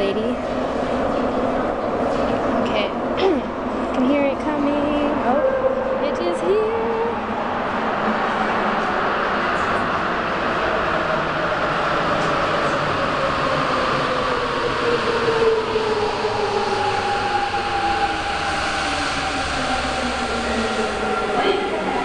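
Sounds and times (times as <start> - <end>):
subway train slowing: 0.0 - 22.0.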